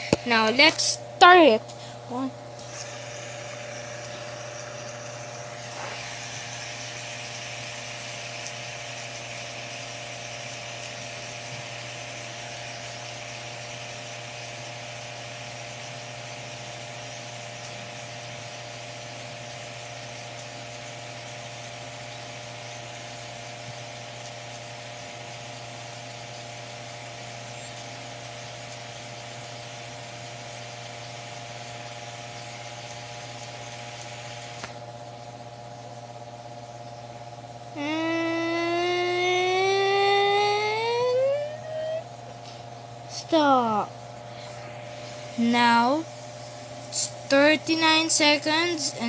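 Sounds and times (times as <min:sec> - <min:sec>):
fidget spinner whirring: 0:00.0 - 0:34.8, 0:37.8 - 0:49.0
constant hum: 0:00.0 - 0:49.0.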